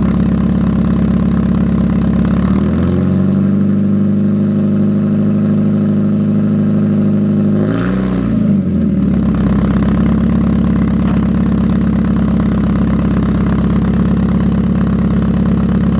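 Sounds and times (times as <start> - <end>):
car engine idling: 0.0 - 7.6, 8.4 - 15.9.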